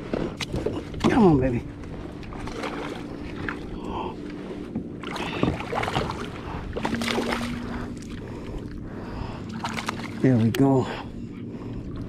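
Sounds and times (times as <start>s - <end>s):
faint steady hum: 0.0s - 12.0s
water sloshing against hull: 0.0s - 12.0s.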